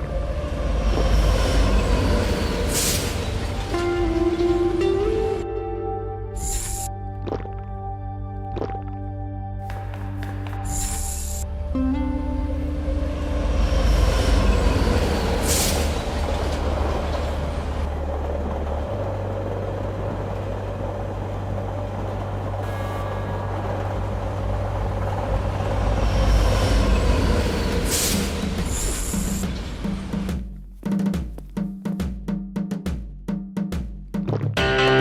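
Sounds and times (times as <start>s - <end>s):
underground train rumbling: 0.0s - 31.4s.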